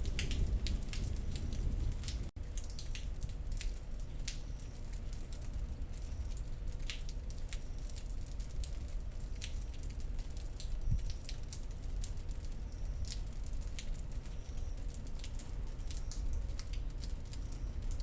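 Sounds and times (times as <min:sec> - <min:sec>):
rain drops ticking: 0:00.0 - 0:18.0.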